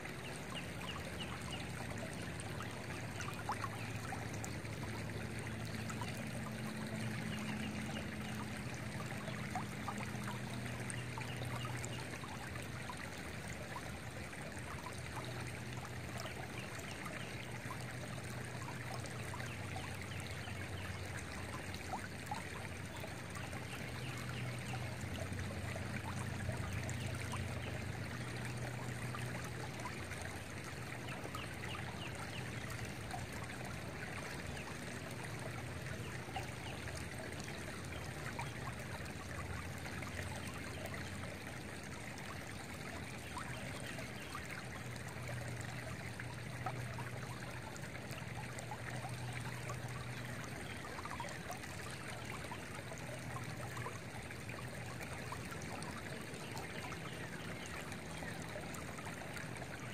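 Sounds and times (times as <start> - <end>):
creek water flowing over stones: 0.0 - 59.9.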